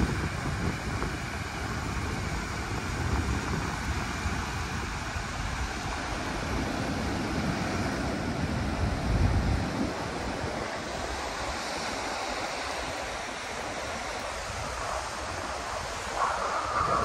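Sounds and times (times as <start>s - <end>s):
surf washing on sand: 0.0s - 17.0s
wind buffeting microphone: 0.0s - 17.0s.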